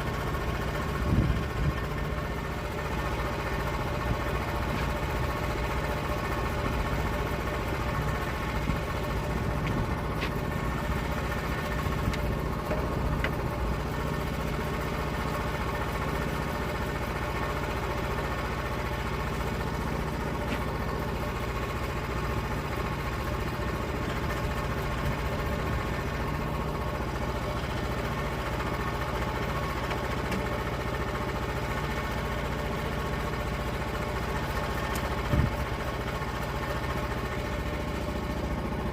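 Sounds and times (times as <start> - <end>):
saw engine running steadily: 0.0 - 38.9.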